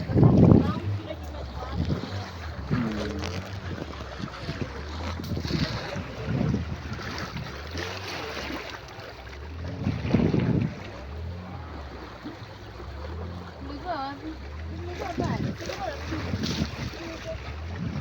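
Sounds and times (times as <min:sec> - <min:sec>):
motorboat engine running: 0:00.0 - 0:18.0
wind buffeting microphone: 0:00.0 - 0:18.0.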